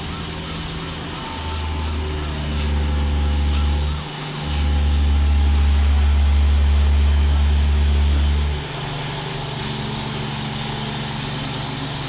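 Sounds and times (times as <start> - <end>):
machinery engine deep rumble: 0.0 - 12.0.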